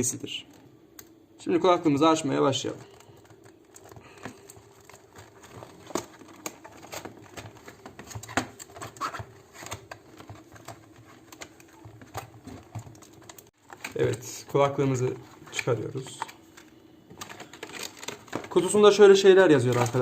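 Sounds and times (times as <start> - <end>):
packaging rustling and crinkling: 2.4 - 20.0.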